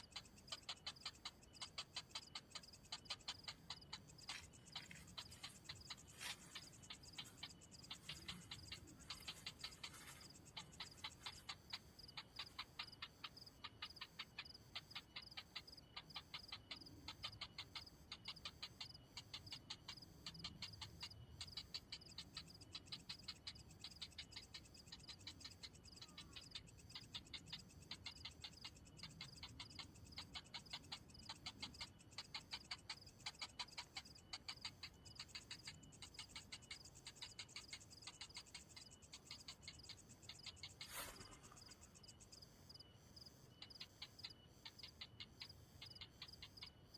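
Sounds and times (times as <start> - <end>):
heron chick ticking calls: 0.0 - 46.9.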